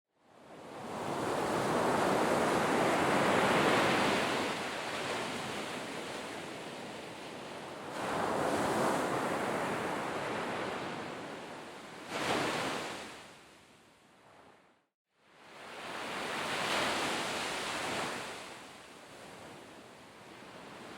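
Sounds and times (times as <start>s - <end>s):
sea waves breaking on shore: 0.5s - 13.5s, 15.2s - 20.9s.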